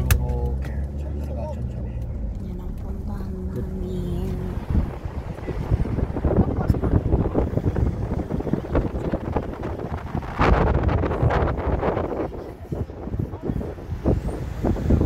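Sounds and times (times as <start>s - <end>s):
road and tyre noise: 0.0s - 15.0s
wind buffeting microphone: 1.9s - 15.0s.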